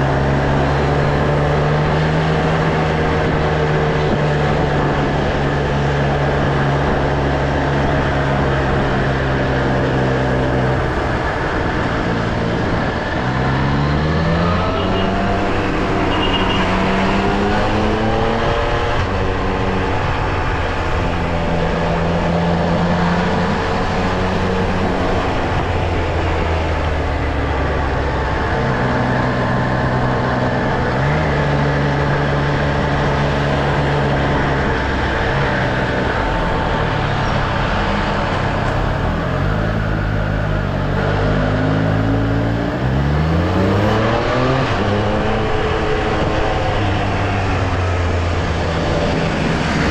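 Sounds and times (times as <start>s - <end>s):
motorcycle engine revving: 0.0s - 49.9s
rush of noise: 0.0s - 49.9s.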